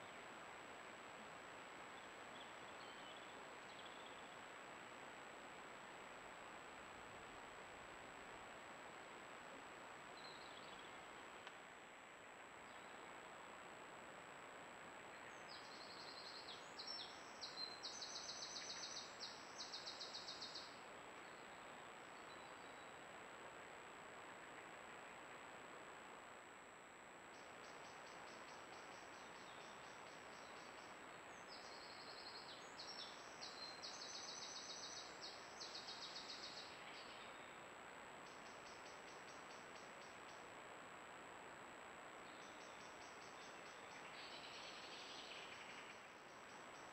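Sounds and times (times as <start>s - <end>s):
microphone hiss: 0.0s - 46.9s.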